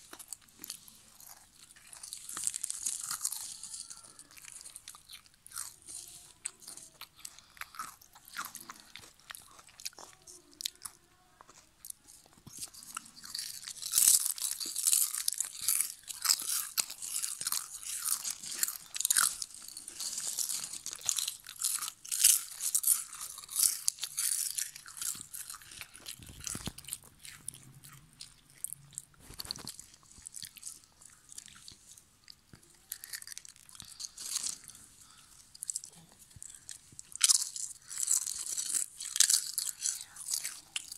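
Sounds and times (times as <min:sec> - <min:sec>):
potato chips crunching: 0:00.0 - 0:40.9.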